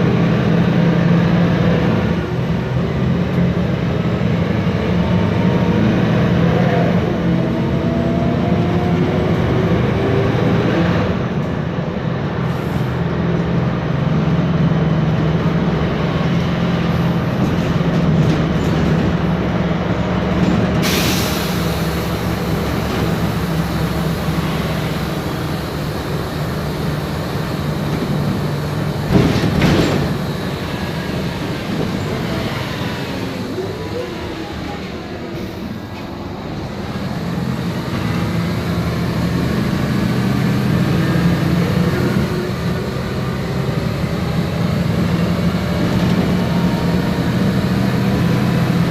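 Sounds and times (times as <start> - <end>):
bus engine running: 0.0 - 48.9.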